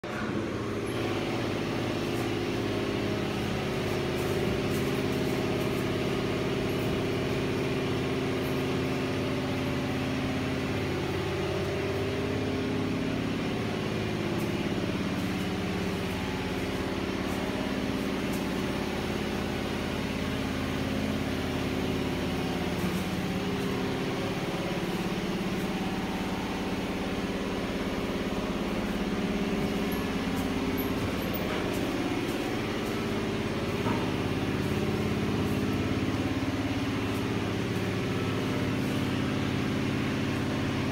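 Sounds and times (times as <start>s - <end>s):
motor and fan drone: 0.0s - 40.9s.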